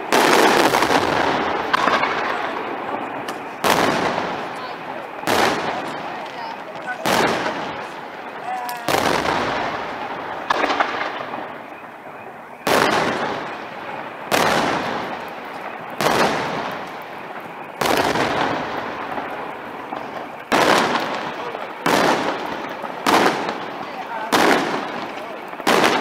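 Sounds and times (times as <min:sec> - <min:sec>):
firework shells bursting: 0:00.0 - 0:26.0.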